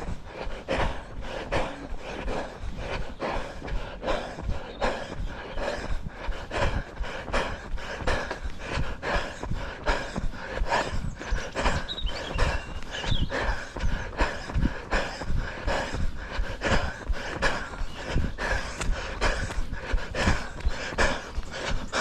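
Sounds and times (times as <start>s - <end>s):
heavy rhythmic breathing: 0.0s - 22.0s.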